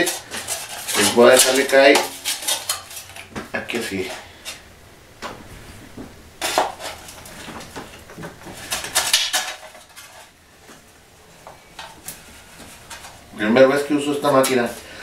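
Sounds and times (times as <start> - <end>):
metal sheet crinkling in rollers: 0.0 - 4.6, 5.3 - 15.0.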